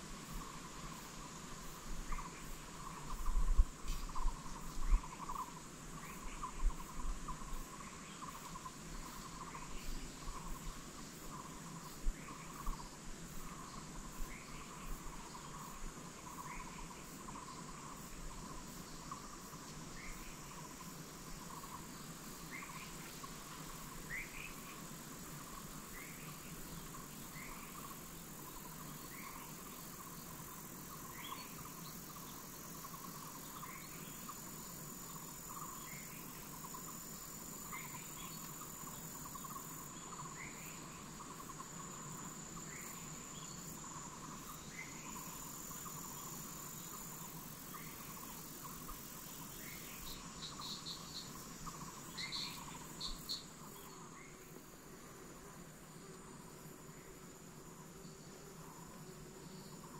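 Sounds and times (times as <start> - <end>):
insects chirring drone: 0.0 - 59.9
short repeated insect call: 0.0 - 59.9.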